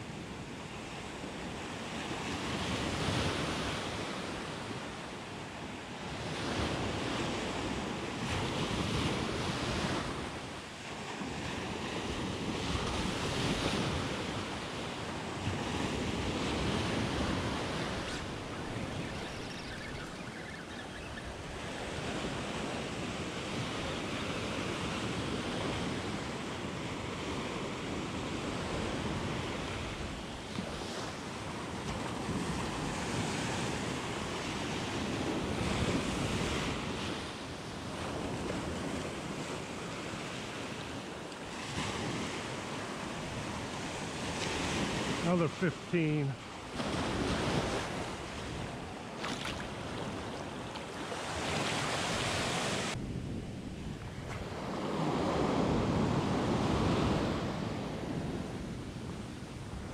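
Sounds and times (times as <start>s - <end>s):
surf breaking on a beach: 0.0s - 59.9s.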